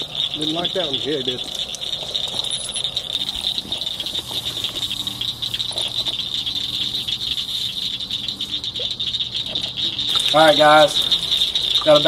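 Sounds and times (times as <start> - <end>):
insect chorus pulsing buzz: 0.0 - 12.0.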